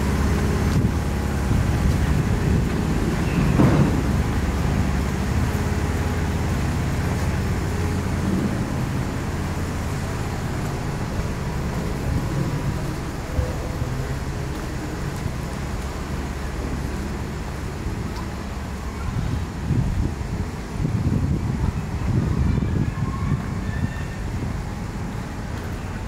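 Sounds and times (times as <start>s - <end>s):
low engine hum: 0.0s - 26.0s
street traffic rumble: 0.0s - 26.0s.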